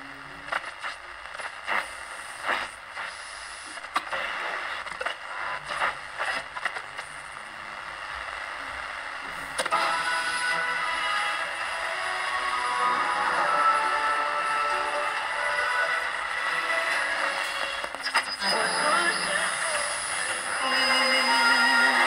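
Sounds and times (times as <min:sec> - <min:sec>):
music on radio: 0:00.0 - 0:22.0
radio static and crackles: 0:00.0 - 0:22.0.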